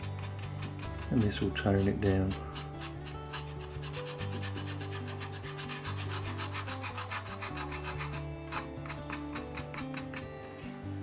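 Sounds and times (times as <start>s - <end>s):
paintbrush scrubbing: 0.0s - 10.3s.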